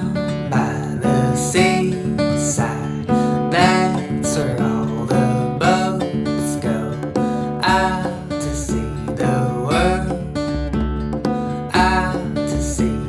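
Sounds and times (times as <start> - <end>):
strummed guitar music: 0.0 - 13.0.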